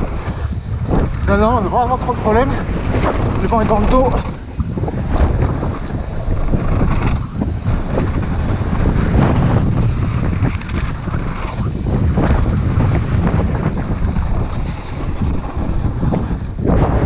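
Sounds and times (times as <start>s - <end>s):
bike rattling: 0.0s - 17.0s
tyres rolling on snow: 0.0s - 17.0s
wind buffeting microphone: 0.0s - 17.0s.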